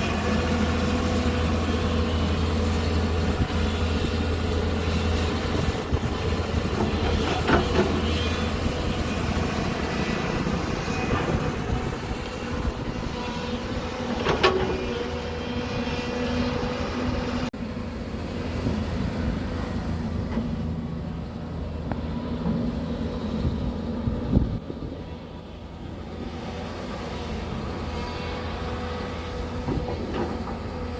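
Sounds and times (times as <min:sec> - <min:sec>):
excavator running while digging: 0:00.0 - 0:30.9.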